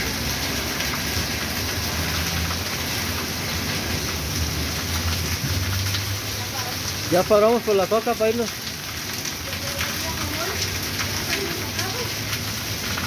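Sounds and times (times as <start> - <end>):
rain falling on water: 0.0 - 13.0.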